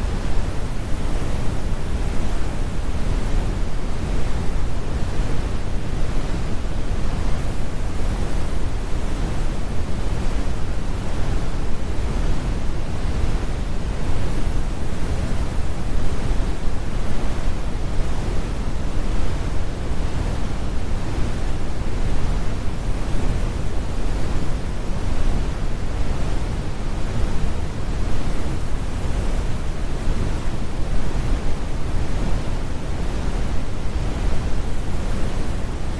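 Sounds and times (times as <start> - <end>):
brown noise rumble: 0.0 - 35.9.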